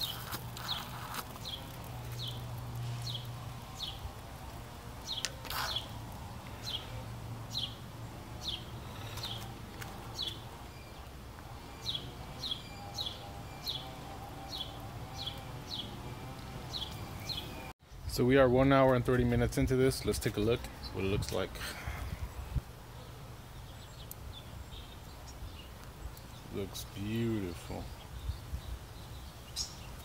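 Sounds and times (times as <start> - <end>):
bird chirping: 0.0 - 4.1, 5.0 - 18.1, 22.3 - 30.0.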